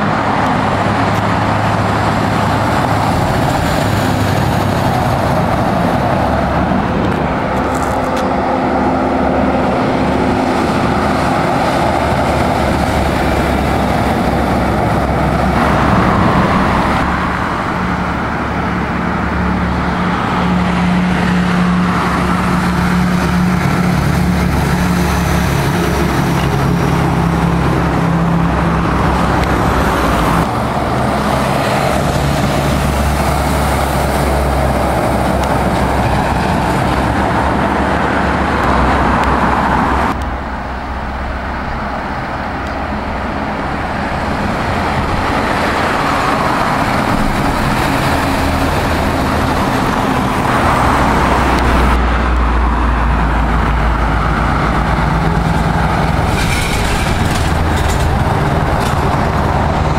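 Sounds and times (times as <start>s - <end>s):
diesel trucks driving past: 0.0s - 59.9s
road traffic noise: 0.0s - 59.9s.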